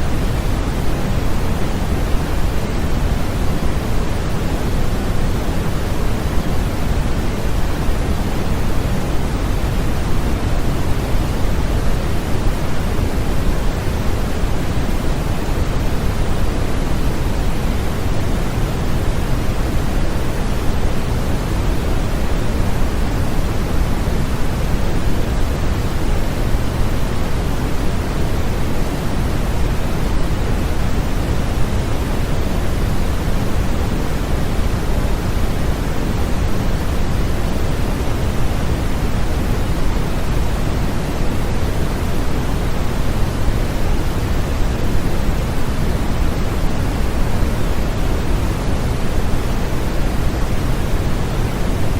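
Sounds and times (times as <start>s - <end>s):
white noise hiss: 0.0s - 51.9s.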